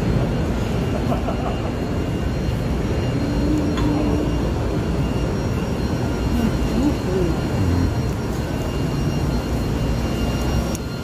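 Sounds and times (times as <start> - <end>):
distant voices: 0.0 - 10.8
machines running: 0.0 - 11.0.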